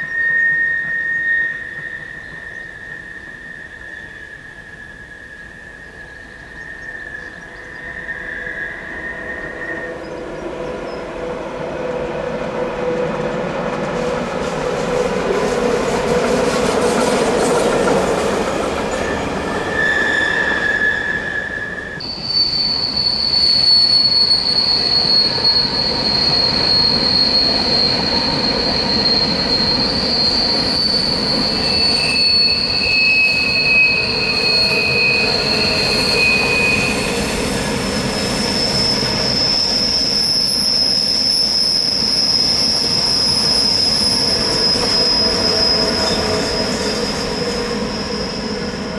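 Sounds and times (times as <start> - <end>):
train rolling noise: 0.0 - 48.9
train wheels squealing: 0.0 - 48.9.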